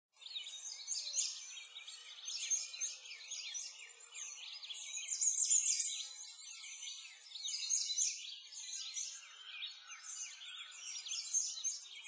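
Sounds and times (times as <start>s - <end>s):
songbirds chirping: 0.2s - 12.0s.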